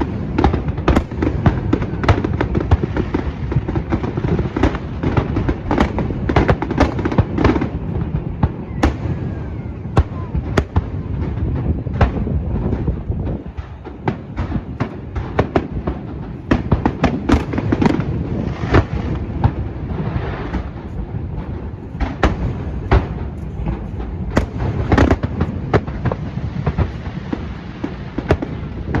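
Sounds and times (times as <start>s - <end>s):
continuous rumble: 0.0s - 29.0s
fireworks bangs and crackles: 0.0s - 29.0s.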